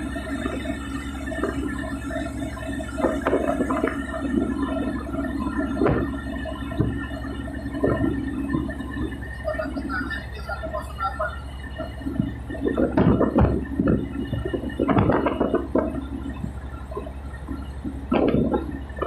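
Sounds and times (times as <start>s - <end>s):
irregular pitched sounds: 0.0s - 19.0s
tugboat engine humming: 0.0s - 19.0s.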